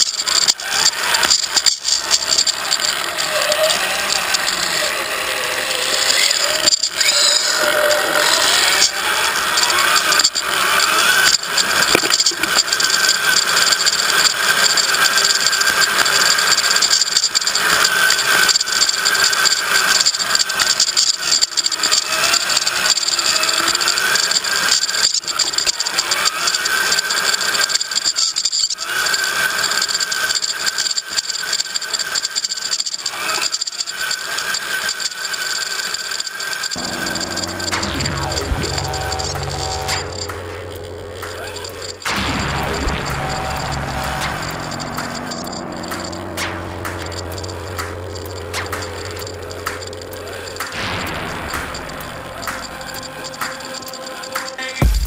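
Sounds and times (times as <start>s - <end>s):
chassis rattling: 0.0s - 55.0s
motor and gears whining: 0.0s - 55.0s.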